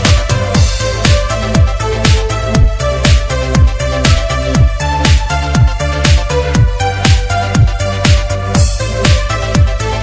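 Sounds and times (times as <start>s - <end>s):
electronic dance music: 0.0s - 10.0s
kick drum: 0.0s - 10.0s.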